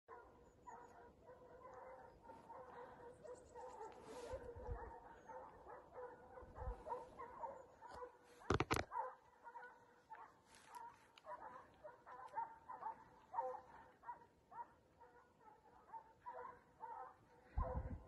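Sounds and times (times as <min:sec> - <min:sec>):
hounds baying in the distance: 0:00.1 - 0:18.0.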